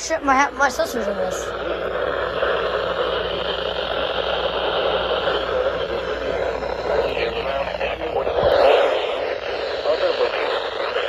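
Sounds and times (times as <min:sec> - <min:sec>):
steady hiss of noise: 0:00.0 - 0:11.0.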